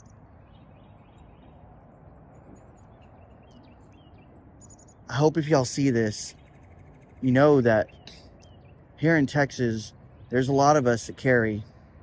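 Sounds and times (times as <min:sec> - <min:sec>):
faint bird chirps: 0:00.0 - 0:12.0
low background hum: 0:00.0 - 0:12.0.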